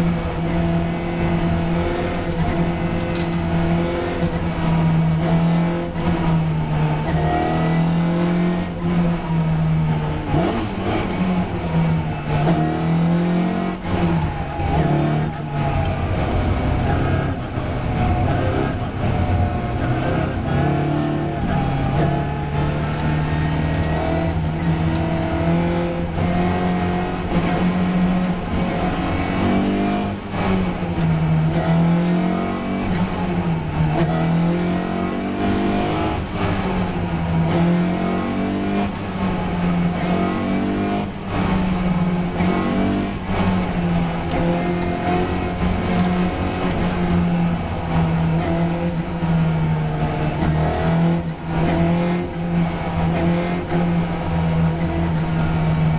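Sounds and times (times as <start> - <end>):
racing car engine revving: 0.0 - 55.9.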